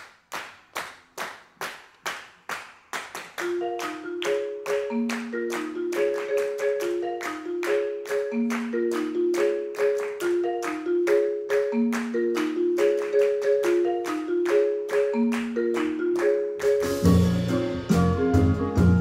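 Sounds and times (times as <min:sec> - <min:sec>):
people clapping a steady beat: 0:00.0 - 0:17.2
marimba repeating pattern: 0:03.4 - 0:19.0.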